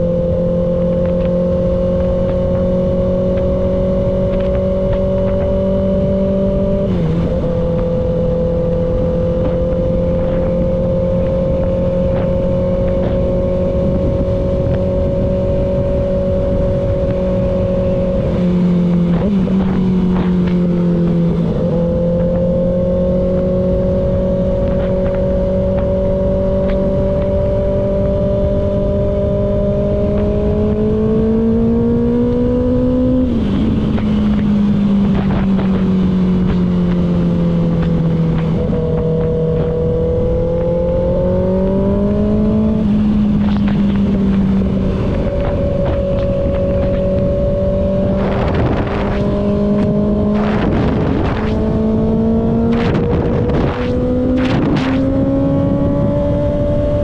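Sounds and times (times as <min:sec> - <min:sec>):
motorcycle engine cruising: 0:00.0 - 0:57.0
wind rush: 0:00.0 - 0:57.0.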